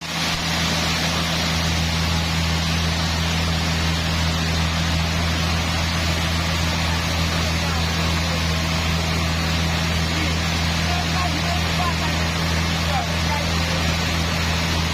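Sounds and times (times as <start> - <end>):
sawmill machinery humming: 0.0 - 14.9.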